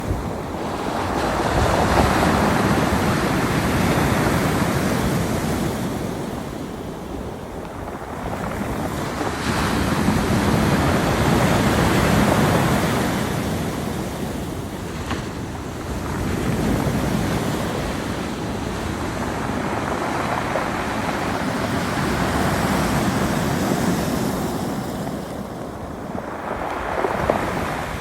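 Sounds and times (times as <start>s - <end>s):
sea surf washing on shore: 0.0s - 28.0s
wind buffeting microphone: 0.0s - 28.0s.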